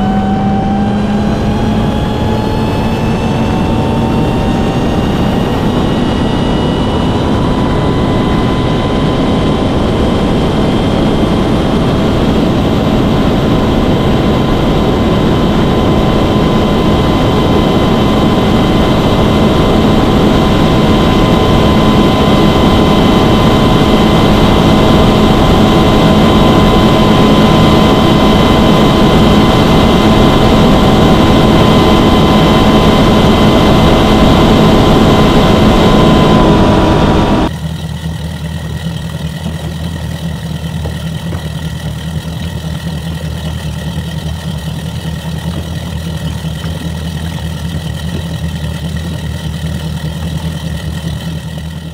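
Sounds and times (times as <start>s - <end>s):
outboard engine at full throttle: 0.0s - 51.9s.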